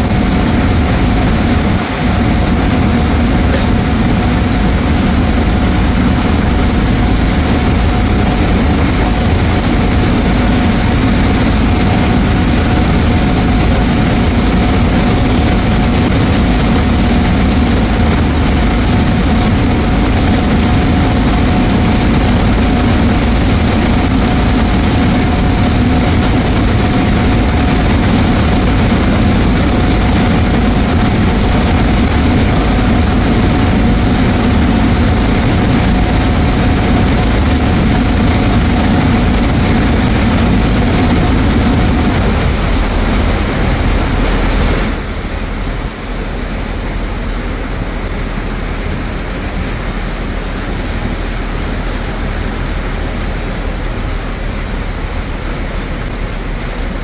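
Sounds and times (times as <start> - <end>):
ship engine low drone: 0.0 - 57.0
thin steady whine: 0.0 - 57.0
wind and water hiss: 0.0 - 57.0.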